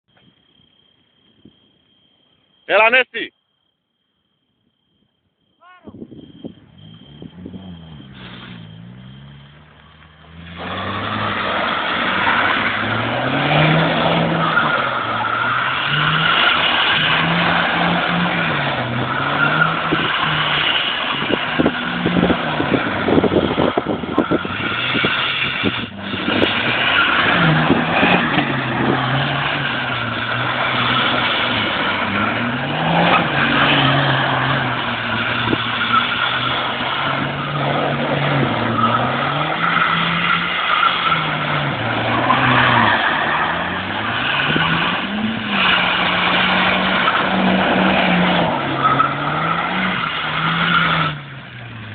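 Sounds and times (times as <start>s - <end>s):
car engine revving through gears: 6.8s - 51.9s.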